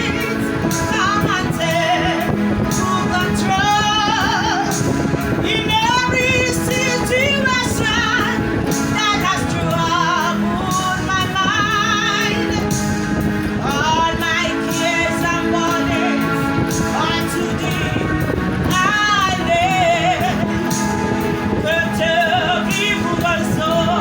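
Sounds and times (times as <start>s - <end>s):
instrumental accompaniment: 0.0s - 24.0s
person singing with vibrato: 0.0s - 24.0s.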